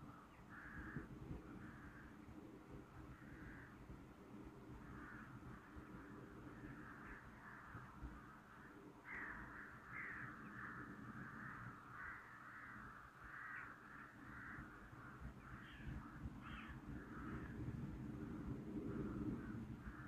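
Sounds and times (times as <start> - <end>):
crows cawing: 0.1 - 2.3, 3.0 - 3.9, 4.7 - 17.7, 18.9 - 20.0.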